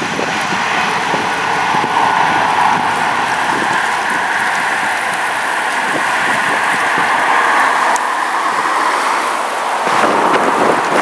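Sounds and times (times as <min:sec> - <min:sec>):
faint jet engine whine: 0:00.0 - 0:11.0
jet engines roaring: 0:00.0 - 0:11.0.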